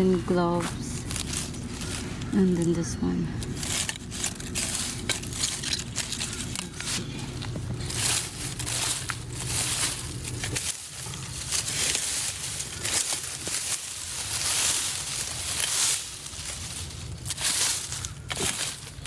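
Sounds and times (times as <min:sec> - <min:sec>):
dry plant debris rustling: 0:00.0 - 0:19.0
low steady hum: 0:00.0 - 0:19.0.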